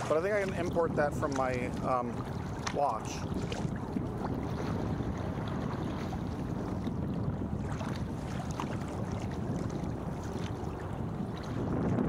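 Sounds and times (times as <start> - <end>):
paddle splashes and drips: 0.0 - 12.0
wind buffeting microphone: 0.0 - 12.0.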